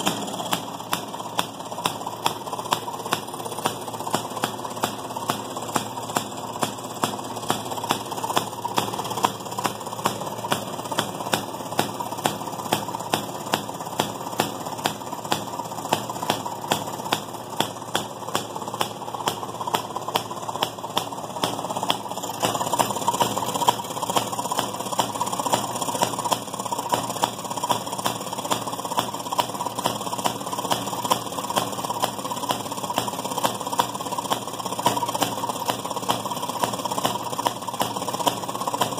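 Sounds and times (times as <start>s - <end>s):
washing machine engine clattering: 0.0s - 38.9s.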